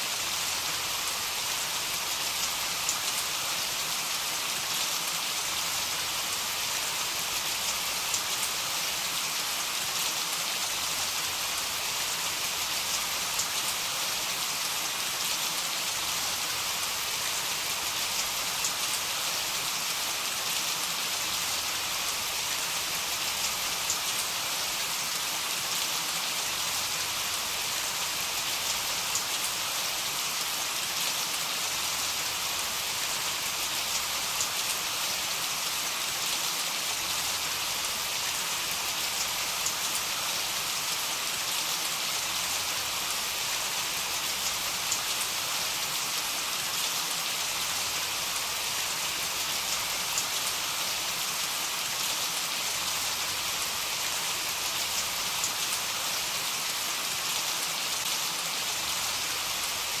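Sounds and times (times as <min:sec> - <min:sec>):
heavy rain falling: 0:00.1 - 1:00.0.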